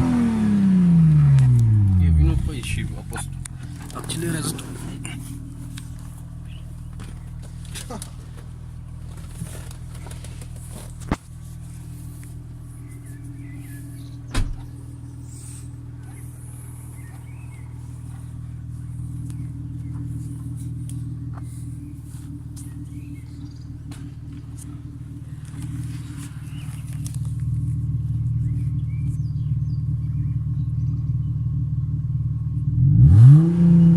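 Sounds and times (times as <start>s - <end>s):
car engine idling: 0.0s - 33.4s.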